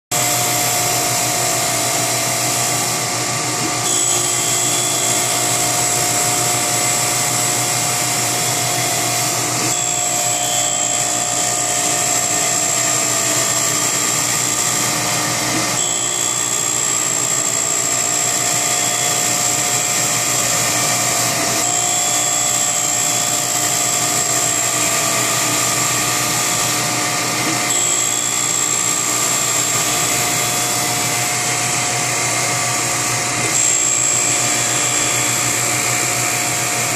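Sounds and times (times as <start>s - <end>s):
surface grinder grinding steel: 0.1s - 36.9s.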